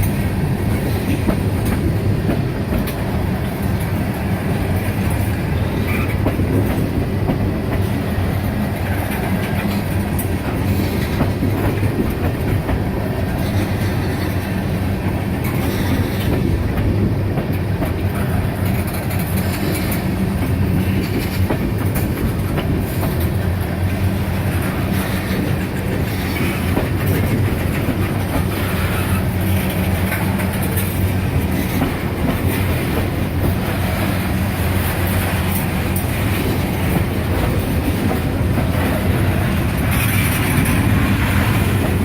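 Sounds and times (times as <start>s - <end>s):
freight train wheels clicking: 0.0s - 42.0s.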